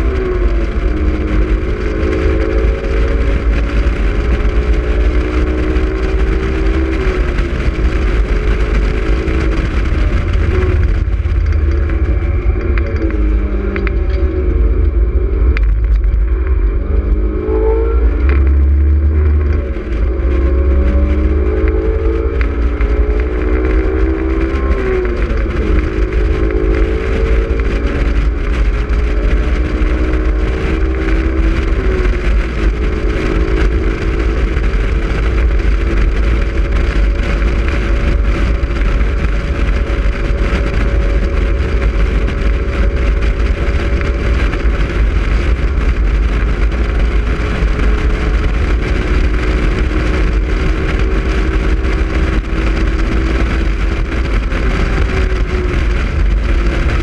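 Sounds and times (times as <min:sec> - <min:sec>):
car engine accelerating hard: 0:00.0 - 0:57.0
wind buffeting microphone: 0:00.0 - 0:57.0.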